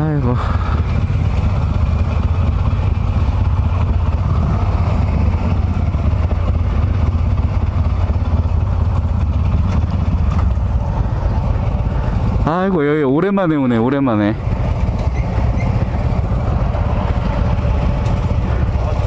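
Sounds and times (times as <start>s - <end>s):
motorcycle engines idling: 0.0s - 19.0s.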